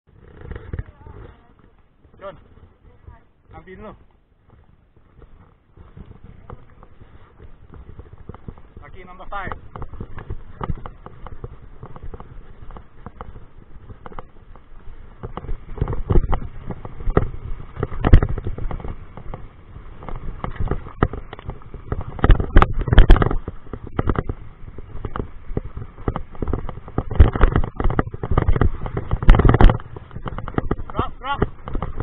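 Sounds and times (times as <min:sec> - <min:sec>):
mountain bike rattling over rocks: 0:00.1 - 0:32.0.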